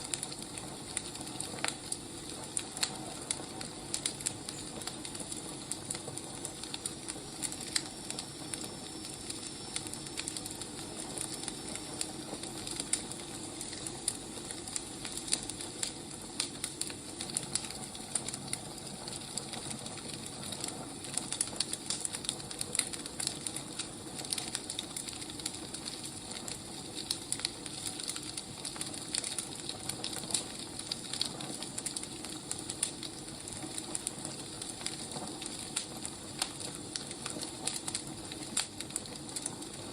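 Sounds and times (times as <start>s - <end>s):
firewood crackling and hissing: 0.0s - 39.9s.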